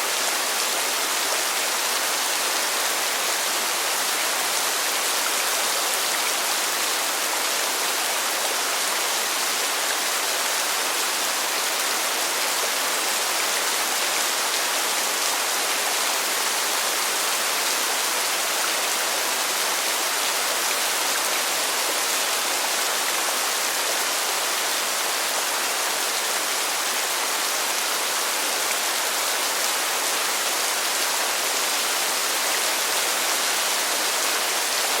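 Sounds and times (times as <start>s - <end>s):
heavy pouring rain: 0.0s - 35.0s.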